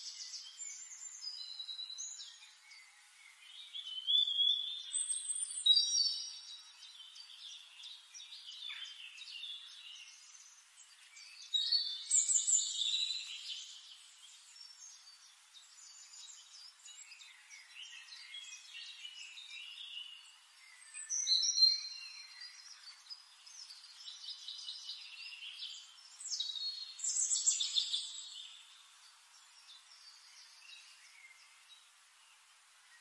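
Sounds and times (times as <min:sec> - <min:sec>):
songbirds chirping and singing: 0:00.0 - 0:33.0.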